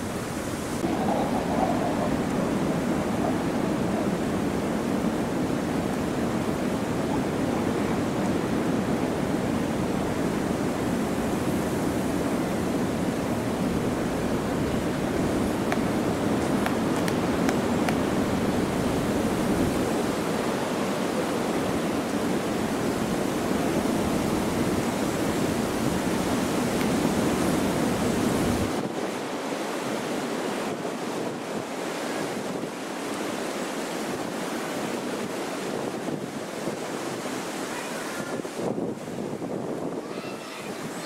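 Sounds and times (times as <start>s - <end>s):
gusting wind over microphone: 0.0s - 41.0s.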